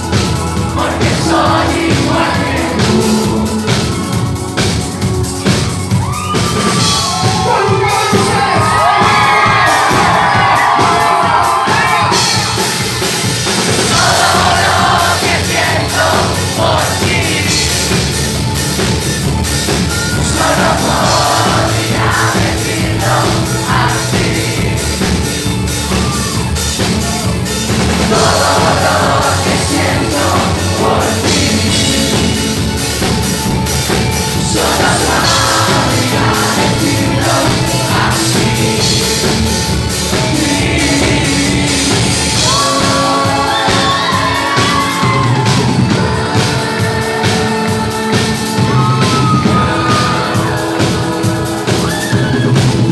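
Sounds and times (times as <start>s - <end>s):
person singing: 0.0s - 13.2s, 13.8s - 18.7s, 19.8s - 33.3s, 34.2s - 52.9s
drum kit: 0.0s - 52.9s
live rock-pop band: 0.0s - 52.9s.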